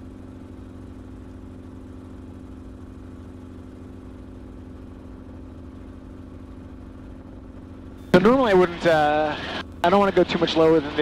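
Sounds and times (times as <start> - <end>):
helicopter engine drone: 0.0 - 11.0
rotor blades beating: 0.0 - 11.0.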